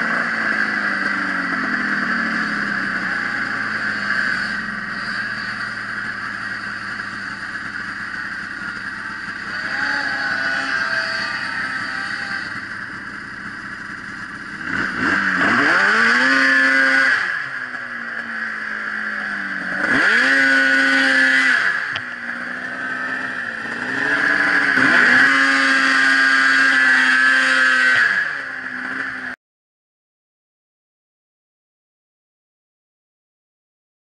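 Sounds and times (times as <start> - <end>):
snowmobile engine revving: 0.0 - 29.4.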